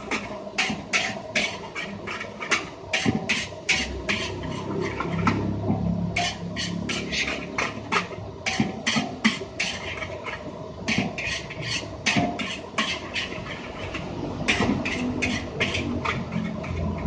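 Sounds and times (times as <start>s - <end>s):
metal spatula scraping a wok: 0.0s - 17.0s.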